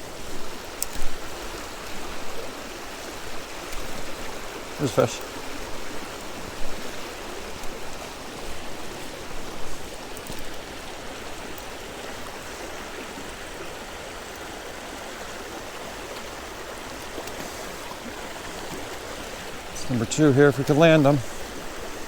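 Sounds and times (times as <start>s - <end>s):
creek water rushing over rocks: 0.0s - 22.0s.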